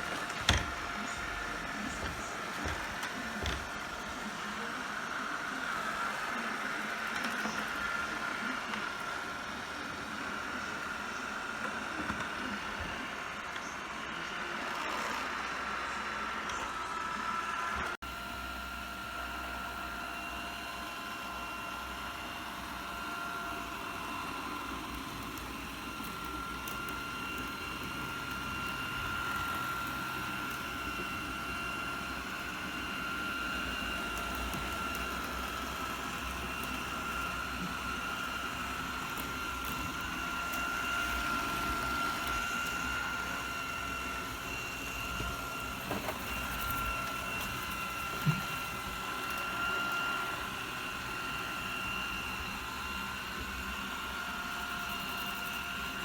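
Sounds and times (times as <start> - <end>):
robot vacuum running: 0.0 - 56.0.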